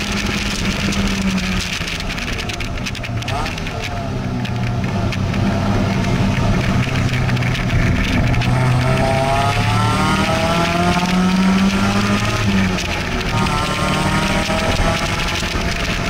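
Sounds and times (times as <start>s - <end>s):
car engine accelerating: 0.0s - 16.0s
wind and road rush: 0.0s - 16.0s.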